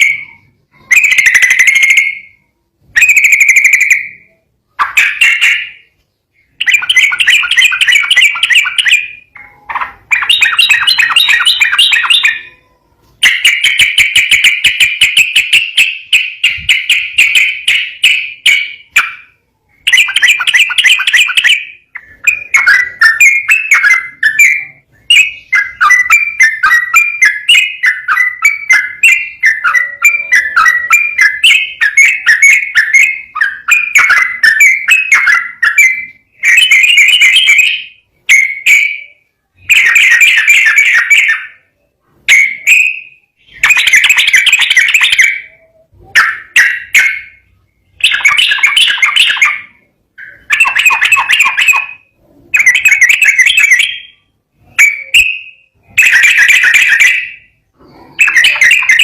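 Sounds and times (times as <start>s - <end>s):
bird singing rapid chattering song: 0.0s - 59.0s.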